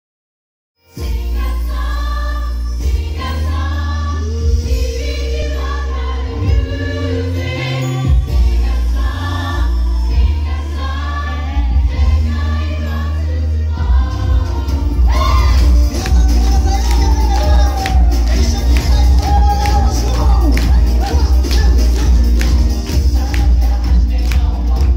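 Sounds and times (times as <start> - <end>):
choir and lead singers singing: 0.9 - 24.9.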